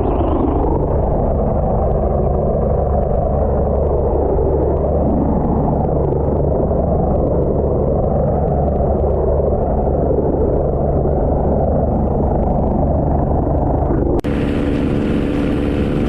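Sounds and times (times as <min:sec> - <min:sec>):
helicopter rotor and engine rumble: 0:00.0 - 0:16.0.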